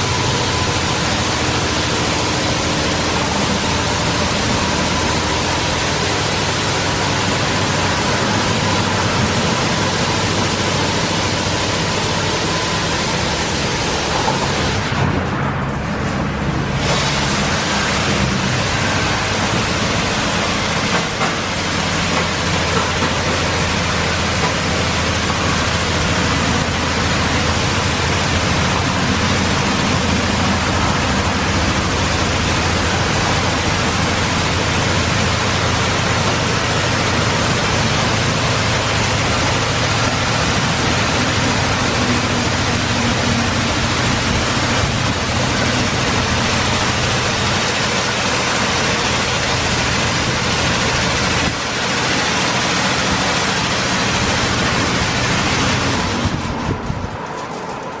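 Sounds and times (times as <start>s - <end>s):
high-pressure water spraying: 0.0s - 15.1s, 16.6s - 56.9s
low machine hum: 0.0s - 58.0s.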